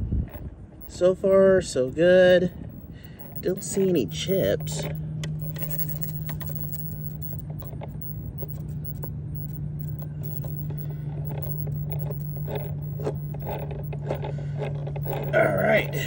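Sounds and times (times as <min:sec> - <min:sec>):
steady low hum: 0:00.0 - 0:16.0
small gear clicks and rattles: 0:00.3 - 0:16.0.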